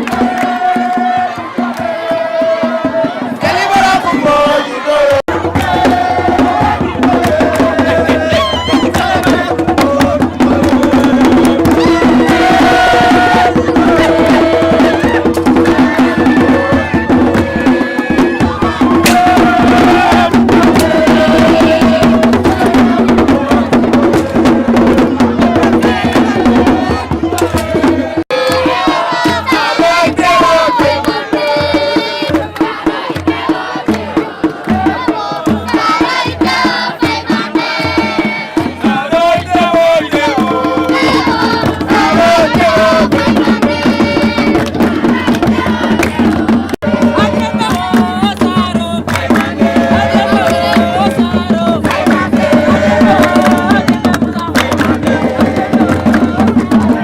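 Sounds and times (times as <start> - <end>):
hand drums playing fast rhythm: 0.0 - 57.0
voices singing: 0.0 - 57.0.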